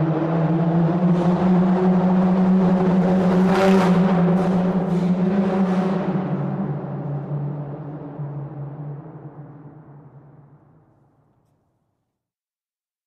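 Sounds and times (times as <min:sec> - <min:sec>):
car engine and tyres droning: 0:00.0 - 0:11.8.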